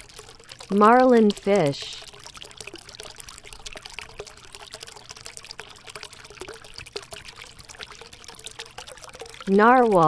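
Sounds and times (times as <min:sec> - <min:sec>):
water trickling over rock: 0:00.0 - 0:10.0.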